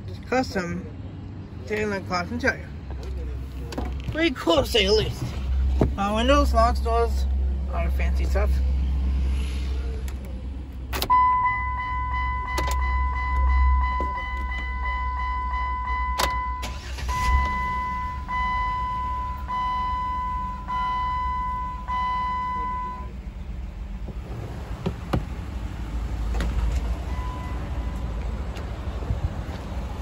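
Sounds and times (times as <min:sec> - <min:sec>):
car engine starting and idling: 0:01.7 - 0:30.0.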